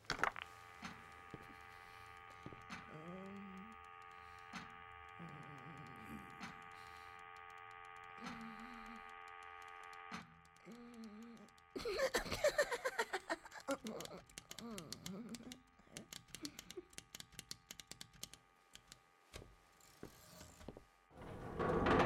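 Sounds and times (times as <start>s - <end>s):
steady machine hum: 0.0s - 22.0s
sharp clicks: 0.1s - 19.4s.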